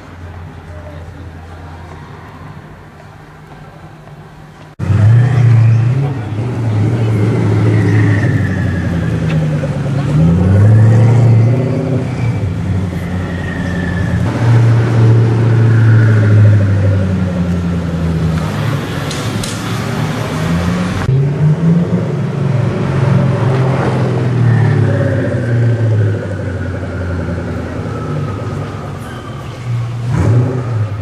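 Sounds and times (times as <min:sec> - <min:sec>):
deep car engine: 0:00.0 - 0:31.0.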